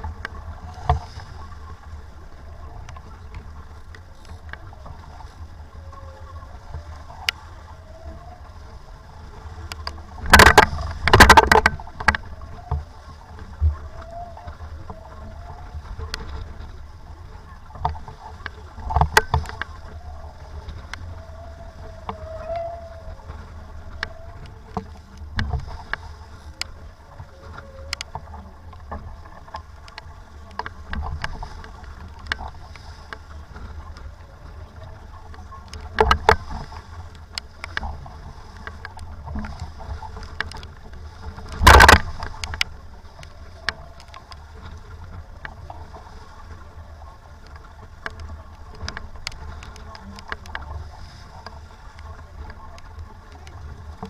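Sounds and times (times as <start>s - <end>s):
sharp ticks of rain: 0.0s - 5.4s, 6.6s - 54.0s
low rumble of wind: 0.0s - 54.0s.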